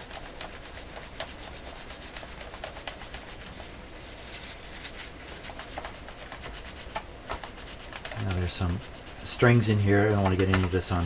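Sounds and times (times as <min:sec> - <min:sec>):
cloth rubbing on metal: 0:00.0 - 0:11.0.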